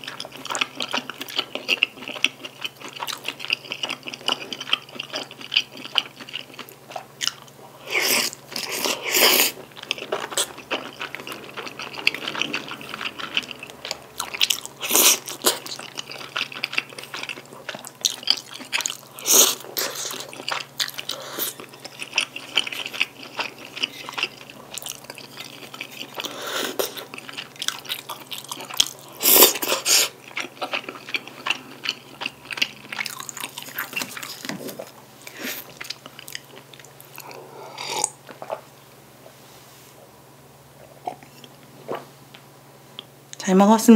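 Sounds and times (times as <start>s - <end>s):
chewing and mouth sounds: 0.0s - 38.7s.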